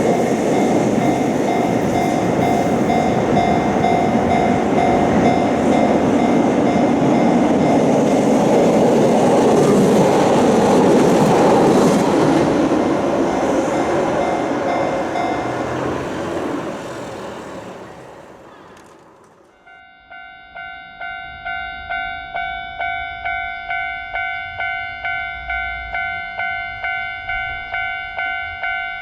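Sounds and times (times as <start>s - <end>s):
level crossing warning bell: 0.0s - 16.6s, 19.5s - 29.0s
train running past: 0.0s - 29.0s.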